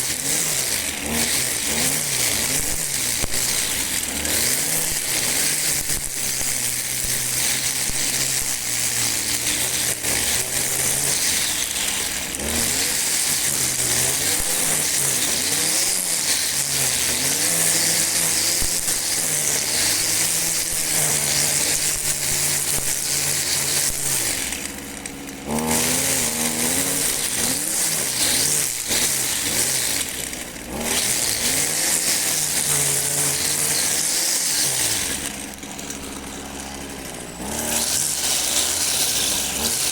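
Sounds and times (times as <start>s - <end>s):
string trimmer engine: 0.0s - 39.9s.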